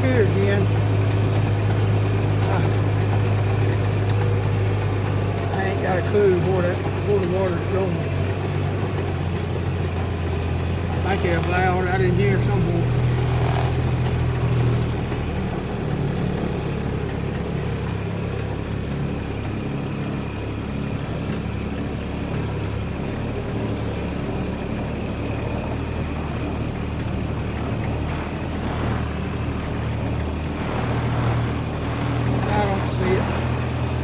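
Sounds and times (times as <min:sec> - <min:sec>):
irrigation pump humming: 0:00.0 - 0:34.0.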